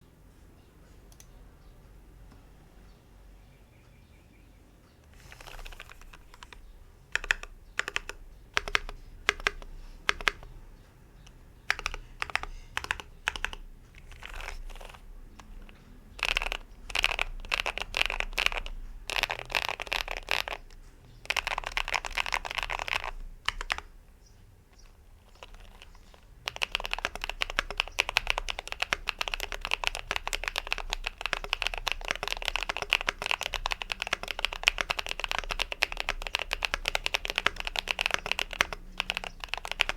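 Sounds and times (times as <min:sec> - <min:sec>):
mechanical keyboard typing: 0:05.1 - 0:10.5, 0:11.2 - 0:24.0, 0:24.8 - 0:39.9.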